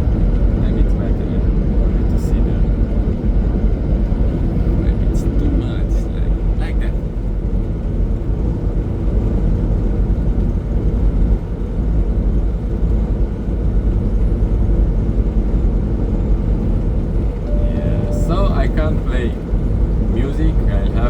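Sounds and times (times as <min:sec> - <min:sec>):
truck engine and tyres droning: 0:00.0 - 0:21.0.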